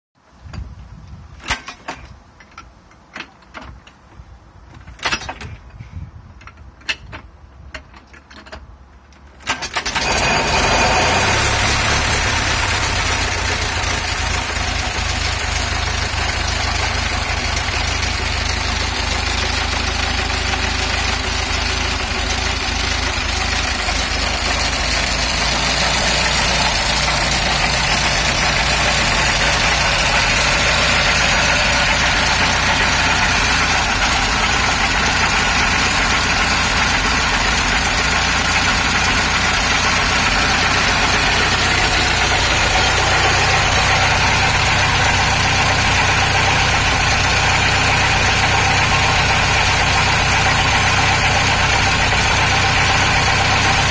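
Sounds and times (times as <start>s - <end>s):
engine clicks and knocks: 6.4s - 53.9s
boat engine idling: 9.8s - 53.9s.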